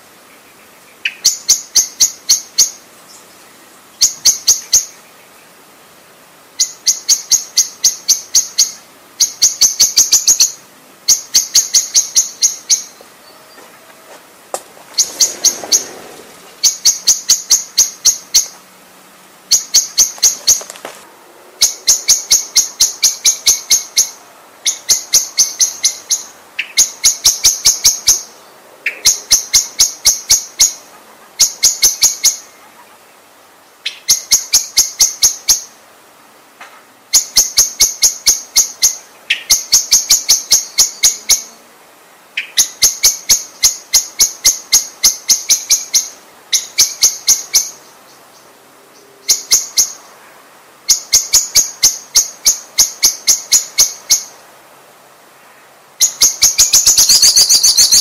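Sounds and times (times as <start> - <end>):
blackbird calling: 0.0 - 5.6, 6.6 - 18.7, 19.5 - 21.0, 21.6 - 35.8, 37.1 - 41.7, 42.3 - 54.4, 55.4 - 58.0.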